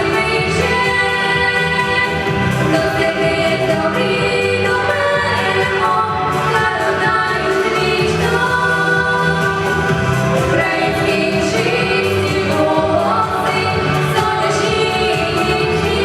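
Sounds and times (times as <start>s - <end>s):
musical accompaniment: 0.0s - 16.0s.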